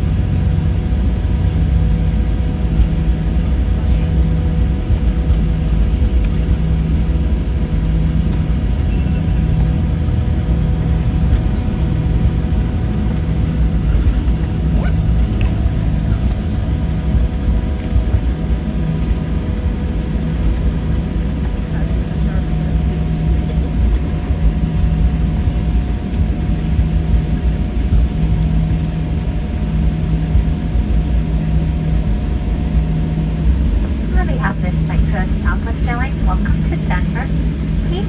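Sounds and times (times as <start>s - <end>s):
faint jet engine whine: 0.0s - 38.0s
low rumble of wheels and airframe: 0.0s - 38.0s.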